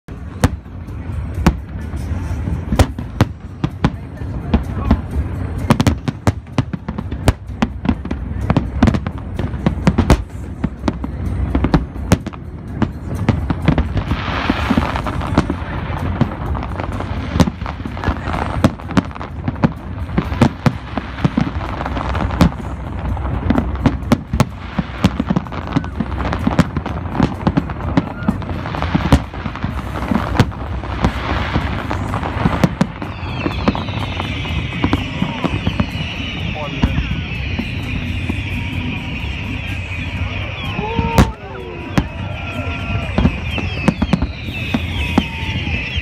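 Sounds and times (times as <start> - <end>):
fireworks booming: 0.1 - 46.0
fireworks crackling: 0.1 - 46.0.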